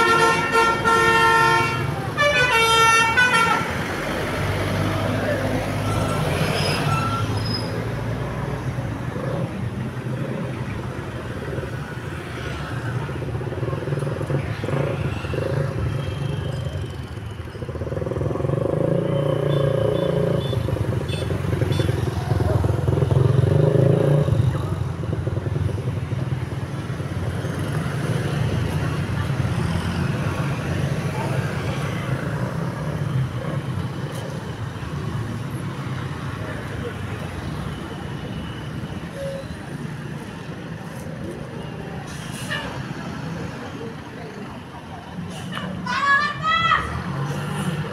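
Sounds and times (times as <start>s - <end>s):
motorcycles passing: 0.0s - 47.9s
road traffic passing: 0.0s - 47.9s.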